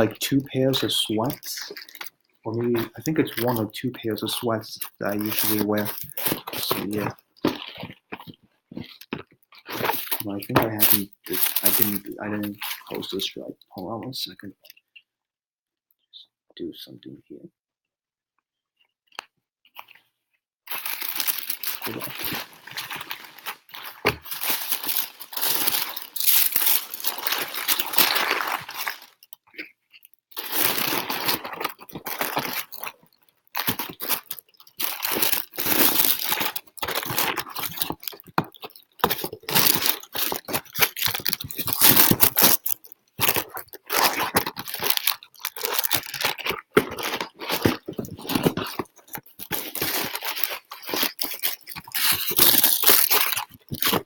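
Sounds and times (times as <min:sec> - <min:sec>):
rustling and crinkling: 0:00.0 - 0:13.3, 0:18.8 - 0:54.0.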